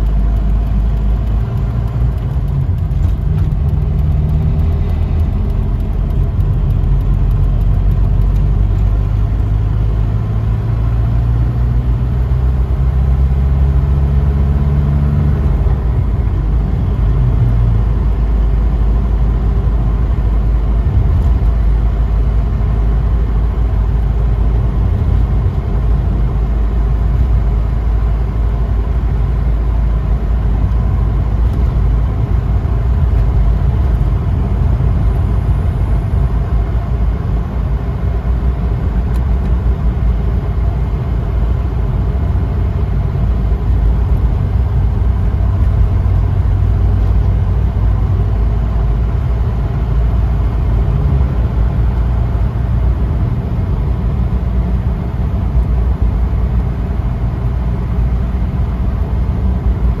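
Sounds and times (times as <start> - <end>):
car engine and tyres rumble: 0.0 - 60.0.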